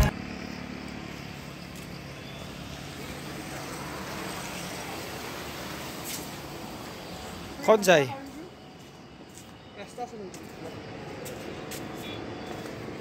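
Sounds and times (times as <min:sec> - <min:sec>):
outdoor background rush: 0:00.0 - 0:13.0.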